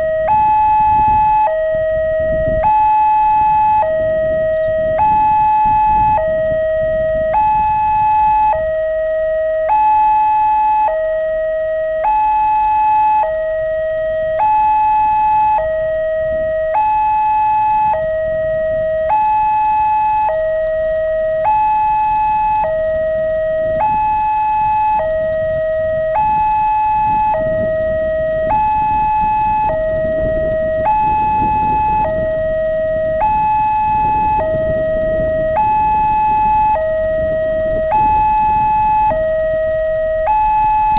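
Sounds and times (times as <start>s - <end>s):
two-tone level crossing alarm: 0.0s - 40.9s.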